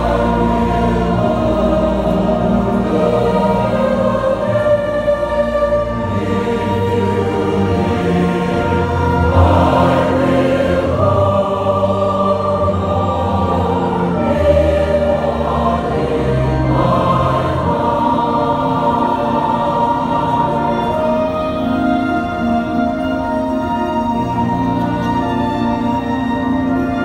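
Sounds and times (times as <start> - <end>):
chamber orchestra: 0.0 - 27.0
choir singing a hymn: 0.0 - 27.0.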